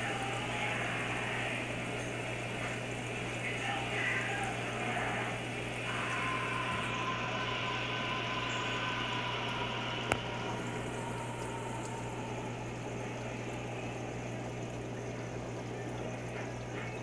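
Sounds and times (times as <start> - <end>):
filter low hum: 0.0 - 17.0
water bubbling and trickling: 0.0 - 17.0.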